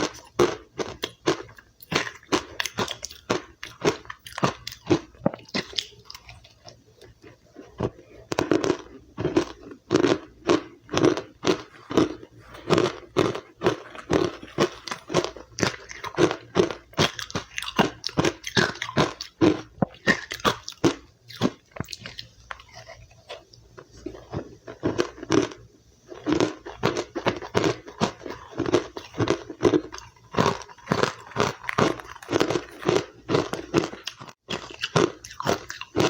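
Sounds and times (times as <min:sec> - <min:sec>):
chewing crunchy ice: 0:00.0 - 0:36.0.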